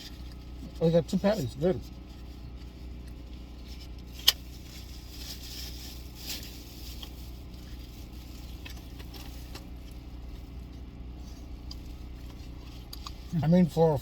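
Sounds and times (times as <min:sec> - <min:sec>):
car low hum: 0:00.0 - 0:14.0
food packaging rustling: 0:01.9 - 0:13.2.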